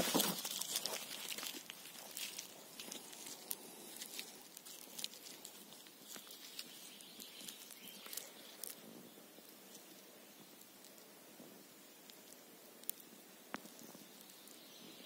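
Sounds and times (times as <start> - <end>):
hands rustling a mushroom: 0.0 - 15.0.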